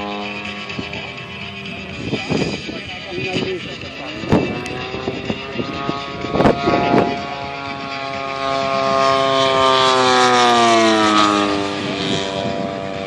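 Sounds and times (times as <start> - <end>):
model aeroplane engine passing: 0.0 - 13.0.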